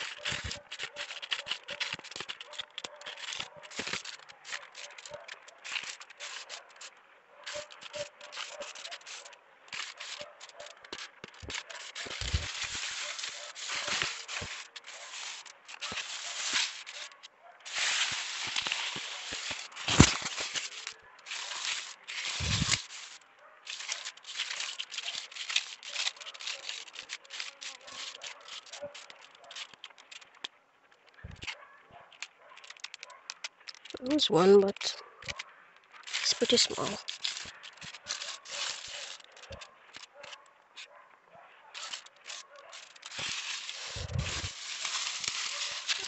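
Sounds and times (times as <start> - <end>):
hands rustling through mulch: 0.0 - 41.0, 41.6 - 46.0.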